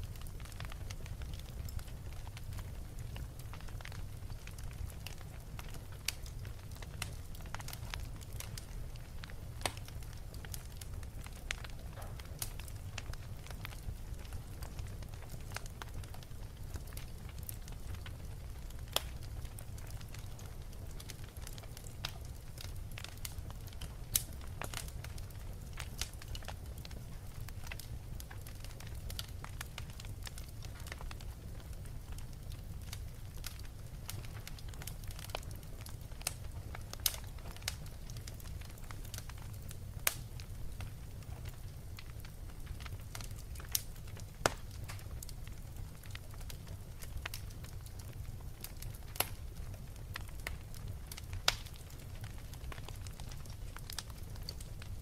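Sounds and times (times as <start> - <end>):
log fire crackling: 0.0 - 55.0.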